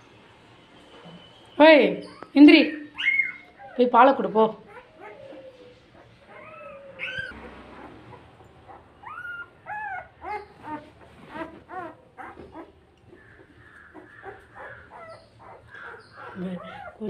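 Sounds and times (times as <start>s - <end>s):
puppies whimpering: 2.0s - 17.0s.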